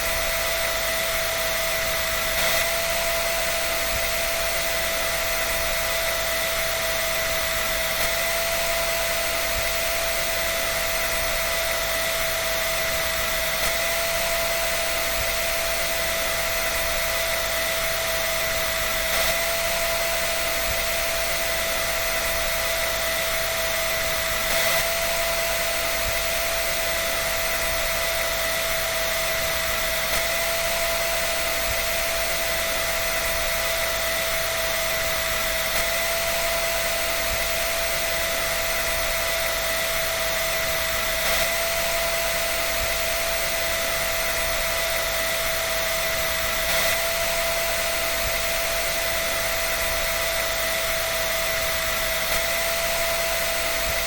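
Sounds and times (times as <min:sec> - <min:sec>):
electric dryer running: 0:00.0 - 0:54.0.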